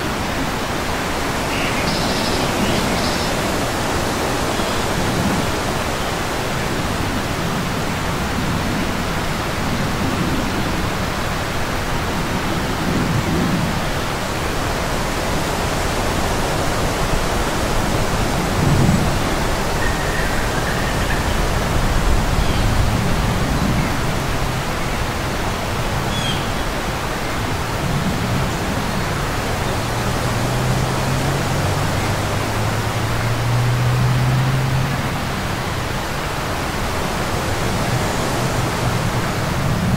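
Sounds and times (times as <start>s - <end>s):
strong wind rushing: 0.0s - 39.9s.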